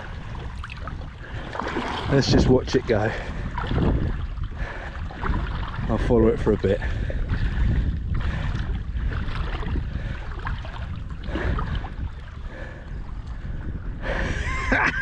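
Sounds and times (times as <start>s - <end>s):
water sloshing from wading: 0.0s - 15.0s
wind rumbling on microphone: 0.0s - 15.0s.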